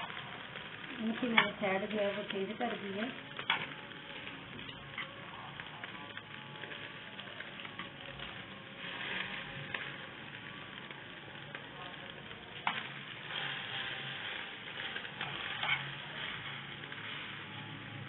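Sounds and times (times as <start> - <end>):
bread sizzling in hot oil: 0.0 - 18.0.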